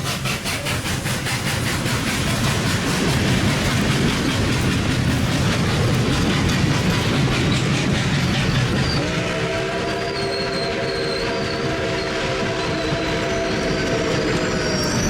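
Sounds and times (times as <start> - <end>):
steam locomotive chugging: 0.0 - 15.0.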